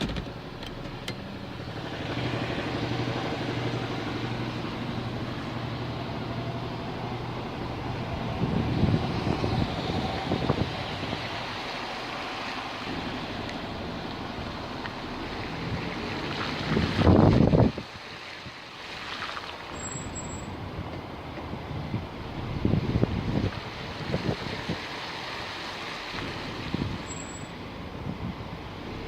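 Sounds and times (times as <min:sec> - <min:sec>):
car engine low hum: 0:00.0 - 0:29.0
road noise: 0:00.0 - 0:29.0.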